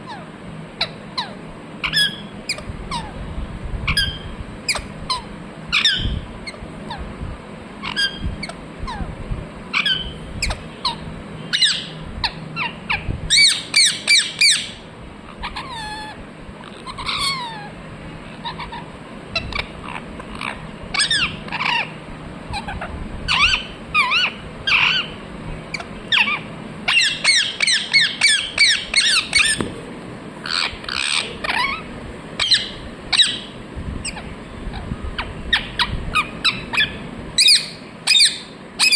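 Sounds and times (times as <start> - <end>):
parrot chirping and squawking: 0.0 - 3.2, 3.9 - 7.1, 7.8 - 29.7, 30.4 - 38.9.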